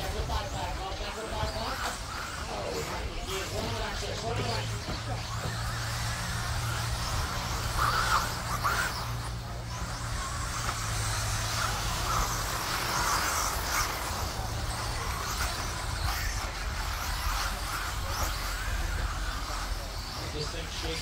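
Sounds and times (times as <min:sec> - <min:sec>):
rc truck motors whining: 0:00.0 - 0:21.0
steady low hum: 0:00.0 - 0:21.0.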